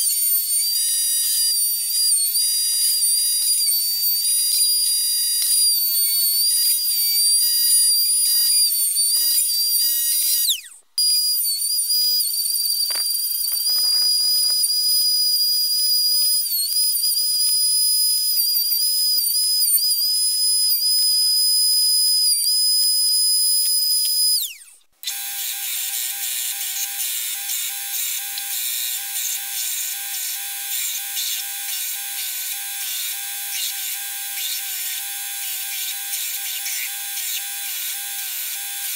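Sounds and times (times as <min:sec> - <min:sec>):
belt grinder humming: 0:00.0 - 0:38.9
router whining: 0:00.0 - 0:38.9.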